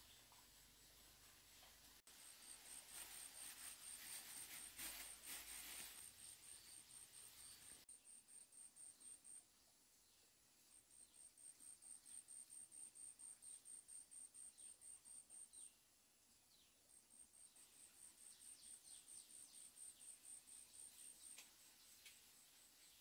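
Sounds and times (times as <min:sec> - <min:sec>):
cricket chirping: 0:02.1 - 0:09.7, 0:10.5 - 0:15.9, 0:16.8 - 0:23.0.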